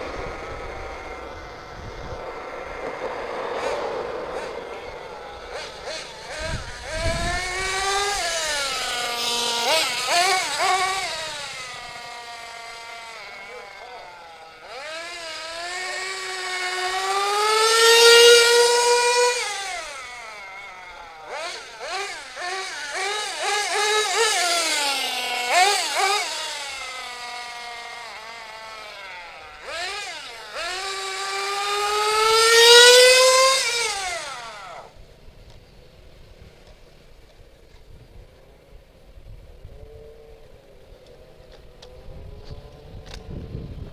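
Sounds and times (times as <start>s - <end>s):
engine throttle blips: 0.0s - 35.6s
nitro engine buzzing: 0.0s - 35.7s, 36.3s - 43.9s.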